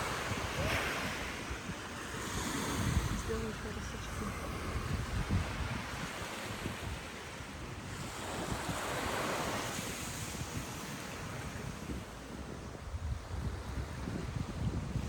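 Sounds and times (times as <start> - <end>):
sea waves breaking on sand: 0.0 - 15.0
wind buffeting microphone: 0.0 - 15.0.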